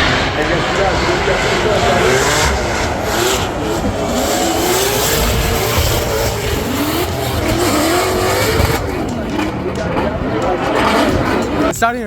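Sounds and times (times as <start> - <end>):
car engine revving: 0.0 - 11.8
track noise: 0.0 - 12.0.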